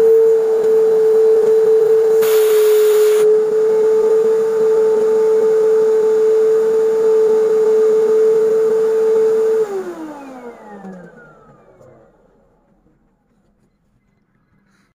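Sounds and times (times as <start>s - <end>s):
vacuum motor winding down whine: 0.0s - 13.0s
vacuum cleaner running: 0.0s - 13.7s.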